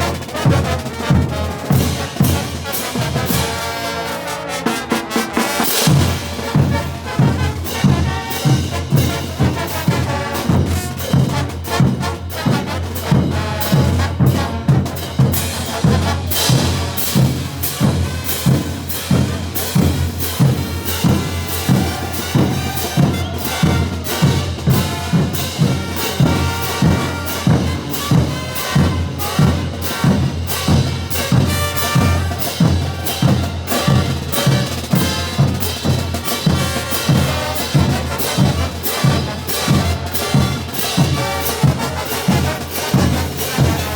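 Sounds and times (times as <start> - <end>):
brass band playing: 0.0 - 43.9
drums: 0.0 - 43.9.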